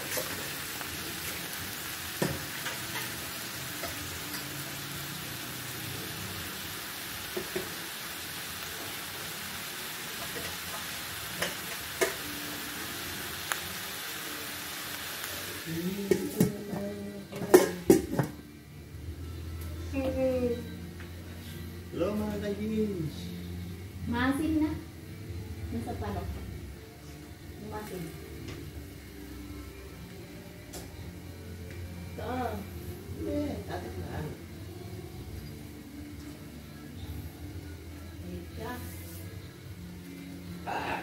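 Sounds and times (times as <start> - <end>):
food sizzling in oil: 0.0 - 18.7, 19.5 - 41.0.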